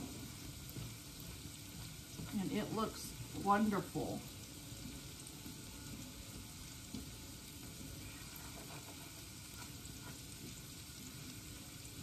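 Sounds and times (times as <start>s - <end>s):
food sizzling in pans: 0.0s - 12.0s
wooden spoon stirring thick food: 0.0s - 12.0s.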